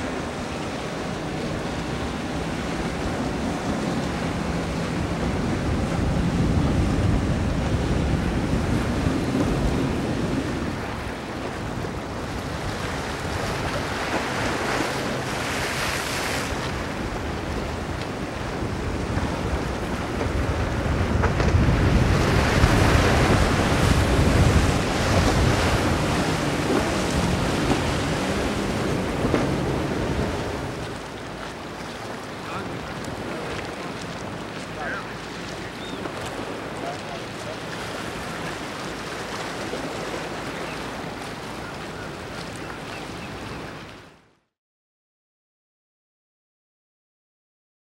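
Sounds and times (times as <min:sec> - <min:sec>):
wind buffeting microphone: 0:00.0 - 0:43.7
waves and spray rushing: 0:00.0 - 0:44.3
boat engine hum: 0:00.0 - 0:44.4.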